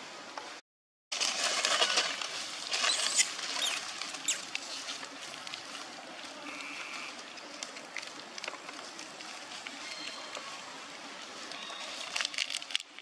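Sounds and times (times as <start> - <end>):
dry leaves rustling and crackling: 1.1 - 13.0.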